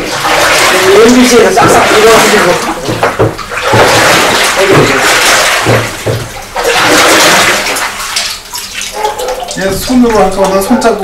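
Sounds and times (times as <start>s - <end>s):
liquid glaze sloshing in a tub: 0.0s - 11.0s.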